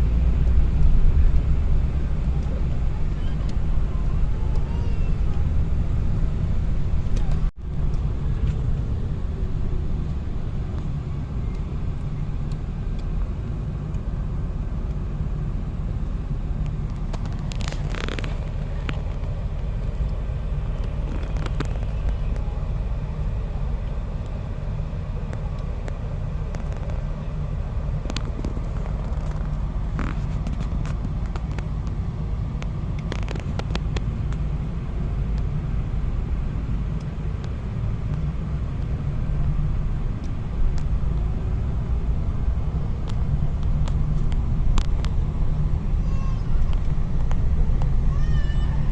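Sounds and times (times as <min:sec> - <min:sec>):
car driving rumble: 0:00.0 - 0:48.9.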